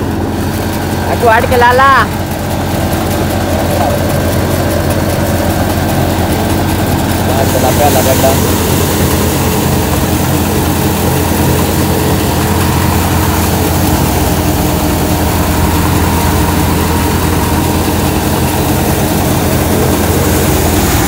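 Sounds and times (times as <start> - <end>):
tractor driving threshing machine: 0.0 - 21.0.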